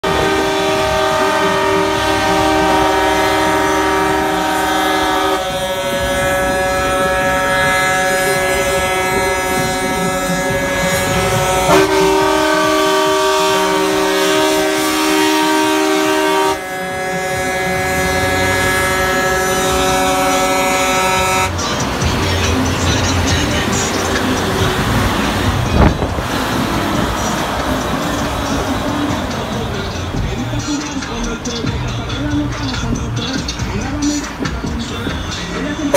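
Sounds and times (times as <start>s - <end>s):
air horns blowing chords: 0.0s - 35.9s
diesel engines rumbling: 0.0s - 35.9s.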